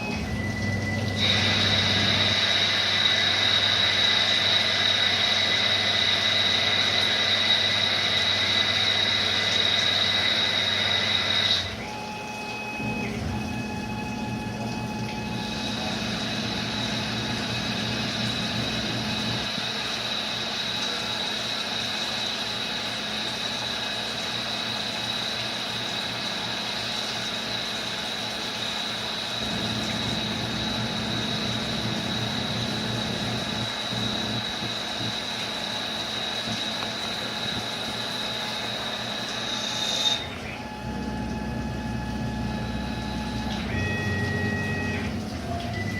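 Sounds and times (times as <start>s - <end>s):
lathe high whine: 0.0s - 45.9s
low machine hum: 0.0s - 45.9s
machine running noise: 0.0s - 45.9s.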